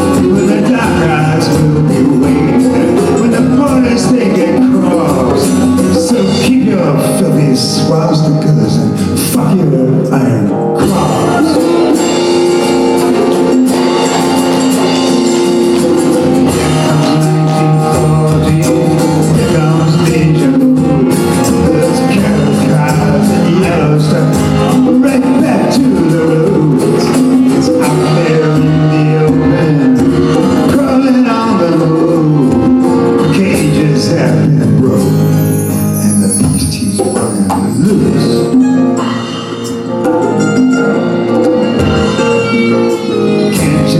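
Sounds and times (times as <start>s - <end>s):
folk-rock band playing: 0.0s - 43.9s.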